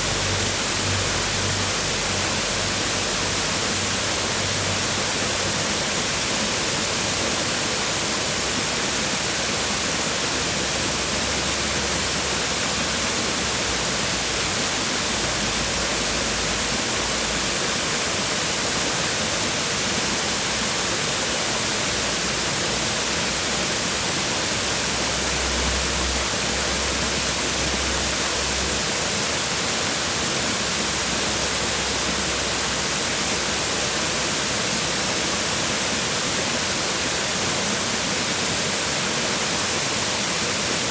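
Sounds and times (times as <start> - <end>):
waterfall splashing onto rocks: 0.0 - 40.9.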